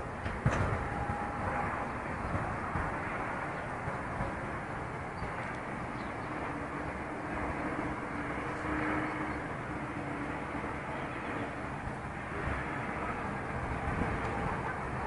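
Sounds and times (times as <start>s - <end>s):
faint engine hum: 0.0s - 15.0s
outdoor rumble: 0.0s - 15.0s.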